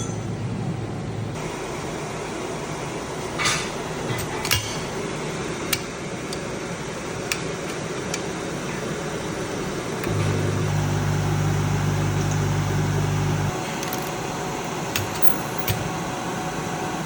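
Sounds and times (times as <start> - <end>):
welding machine fan whir: 1.4 - 17.0.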